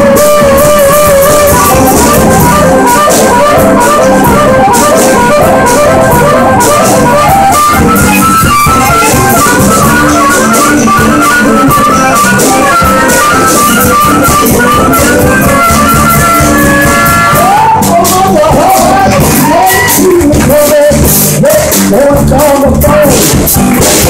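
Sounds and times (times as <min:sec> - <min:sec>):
drums: 0:00.0 - 0:24.0
electric guitars: 0:00.0 - 0:24.0
harmonica melody: 0:00.0 - 0:24.0.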